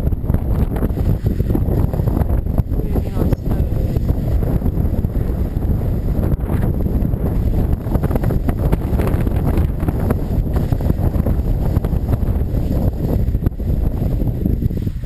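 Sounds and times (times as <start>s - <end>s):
wind buffeting microphone: 0.0s - 15.0s
skis scraping over snow: 0.6s - 15.0s.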